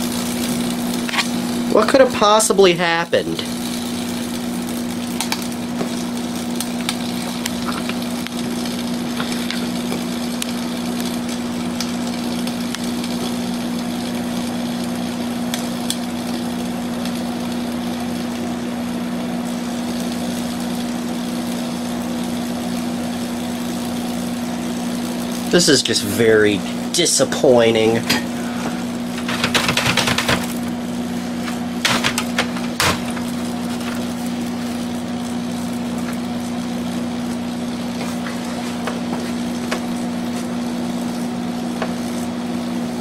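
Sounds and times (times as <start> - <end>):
electrical crackles: 0.0 - 43.0
power supply electrical buzz: 0.0 - 43.0.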